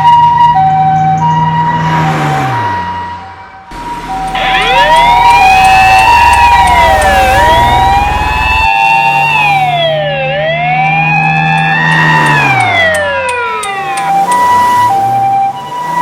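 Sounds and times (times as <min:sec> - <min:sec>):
siren wail: 0:00.0 - 0:16.0
two-tone electronic siren: 0:00.0 - 0:16.0.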